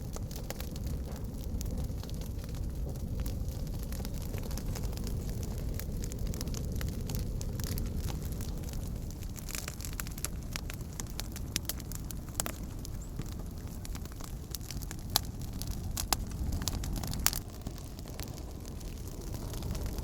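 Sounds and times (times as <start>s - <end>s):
campfire crackling and popping: 0.0s - 20.0s
low fire rumble: 0.0s - 20.0s.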